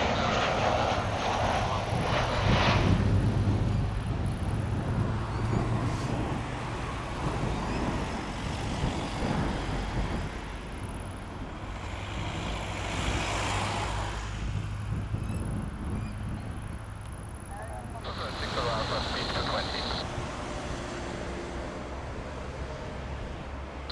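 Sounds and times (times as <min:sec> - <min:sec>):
engine rumble: 0:00.0 - 0:23.9.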